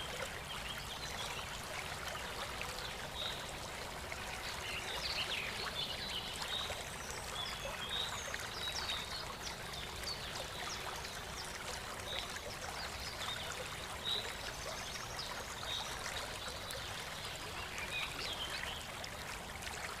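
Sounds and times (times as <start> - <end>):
light rain pattering: 0.0 - 20.0.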